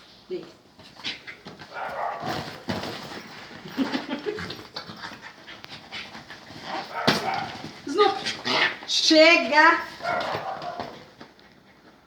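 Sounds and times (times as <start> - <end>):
scuffling and rustling: 0.4 - 12.0.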